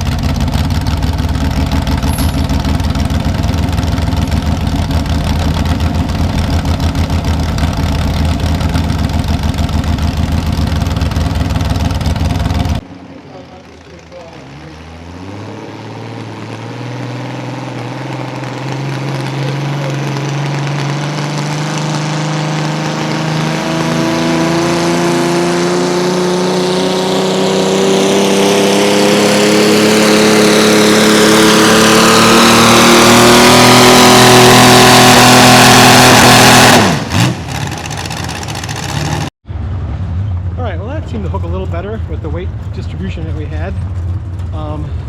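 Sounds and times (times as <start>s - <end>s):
tractor engine under full load: 0.0s - 16.2s, 16.8s - 39.4s.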